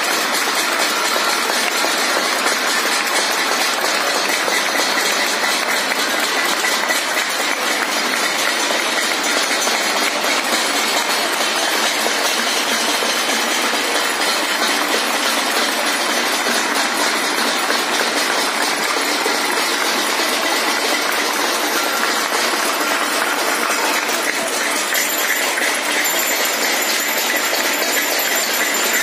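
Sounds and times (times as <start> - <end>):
crowd clapping: 0.0 - 29.0.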